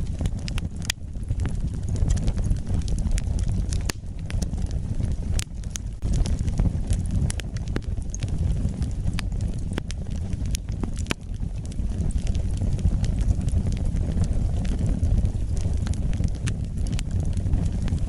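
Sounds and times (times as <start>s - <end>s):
burning wood crackling and popping: 0.0s - 18.0s
flames rumbling: 0.0s - 18.0s.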